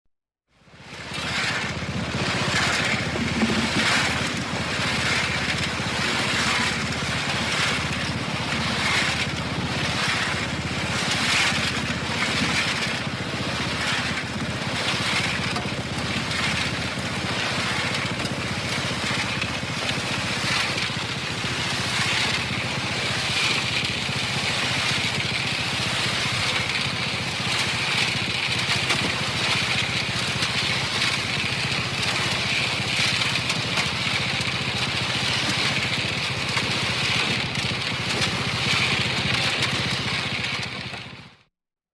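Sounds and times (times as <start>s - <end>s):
cement mixer motor running: 0.6s - 41.5s
gravel tumbling in drum: 1.1s - 41.2s.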